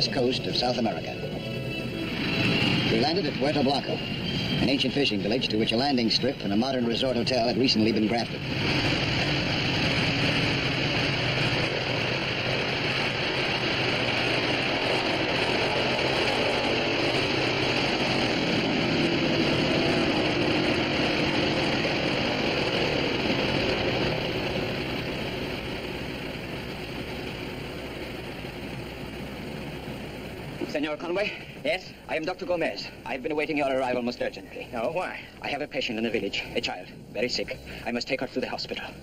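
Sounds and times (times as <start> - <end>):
propeller airplane engines running: 0.0 - 39.0.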